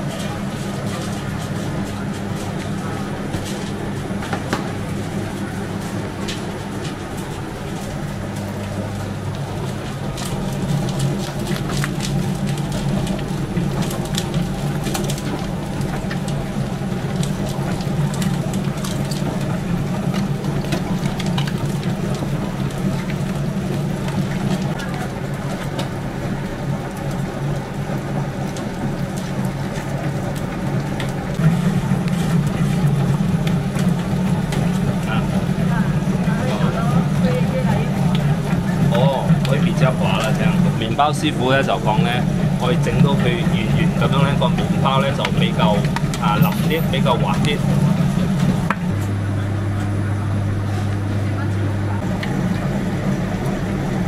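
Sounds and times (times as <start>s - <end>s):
machinery motor hum: 0.0s - 54.0s.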